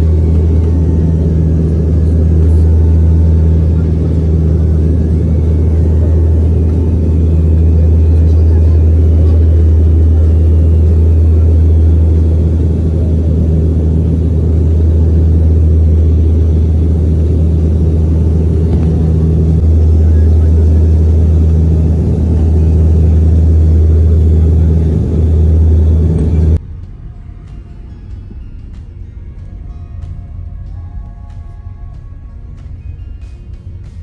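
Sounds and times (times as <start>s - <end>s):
vehicle rumble from inside: 0.0s - 34.0s.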